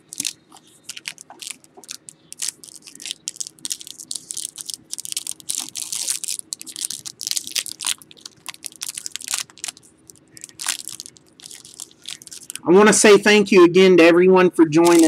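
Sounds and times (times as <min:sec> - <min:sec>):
foil wrapper crinkling and tearing: 0:00.0 - 0:12.6.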